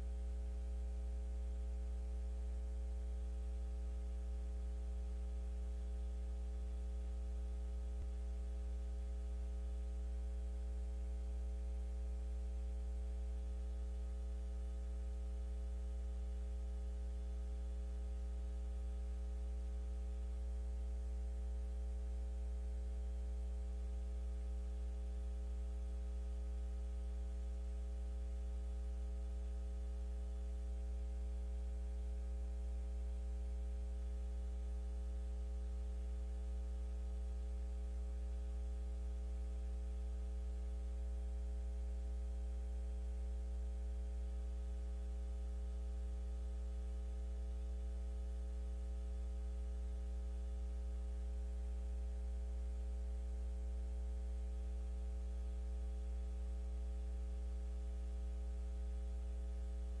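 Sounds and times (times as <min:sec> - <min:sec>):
electrical mains hum: 0:00.0 - 1:00.0
faint static hiss: 0:00.0 - 1:00.0.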